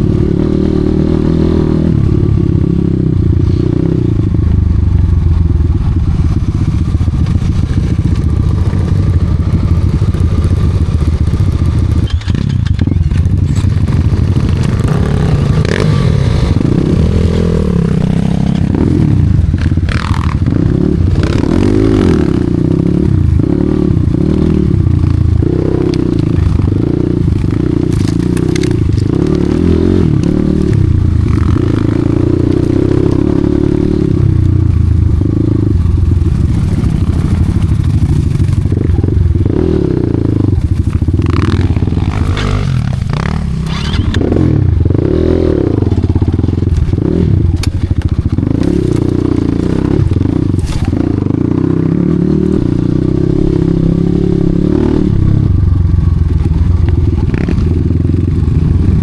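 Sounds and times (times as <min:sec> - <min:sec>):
dirt bike engine revving: 0:00.0 - 0:04.6, 0:05.8 - 0:59.0.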